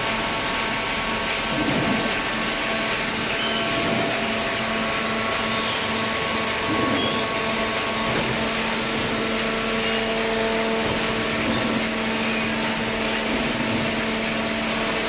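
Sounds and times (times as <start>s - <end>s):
baler motor and pump humming: 0.0s - 15.0s.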